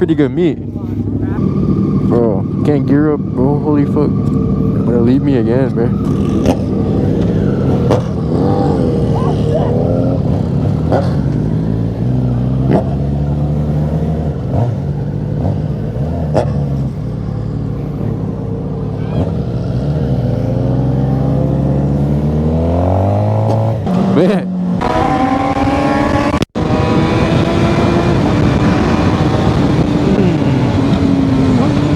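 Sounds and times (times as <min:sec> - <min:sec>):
motorcycle engine without exhaust: 0:00.0 - 0:31.9.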